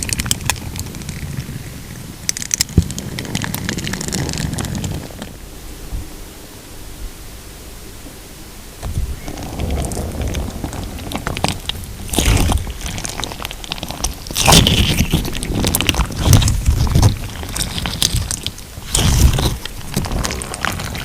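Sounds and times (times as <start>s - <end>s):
slime squishes: 0.0s - 5.3s, 9.2s - 21.0s
crunchy slime crackling: 0.0s - 5.4s, 9.1s - 21.0s.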